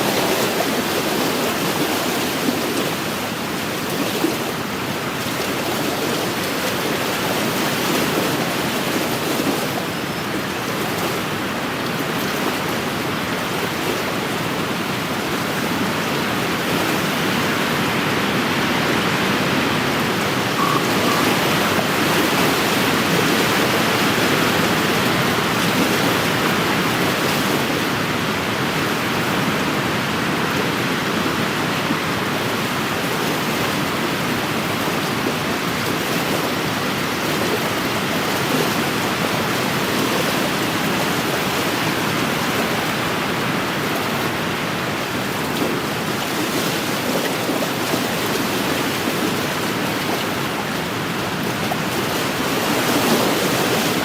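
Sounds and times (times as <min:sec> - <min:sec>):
steady wind: 0:00.0 - 0:54.0
waves washing against shore: 0:00.0 - 0:54.0.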